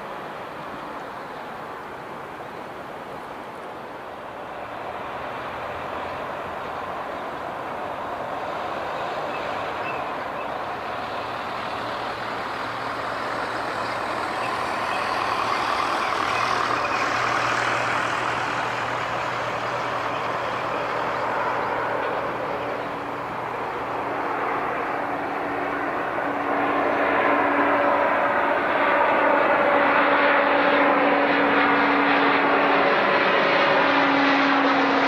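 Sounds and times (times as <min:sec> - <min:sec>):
jet engines rushing: 0:00.0 - 0:35.0.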